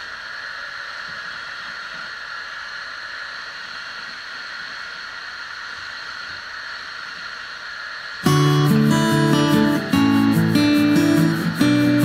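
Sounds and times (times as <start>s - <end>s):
power sander hissing: 0.0s - 12.0s.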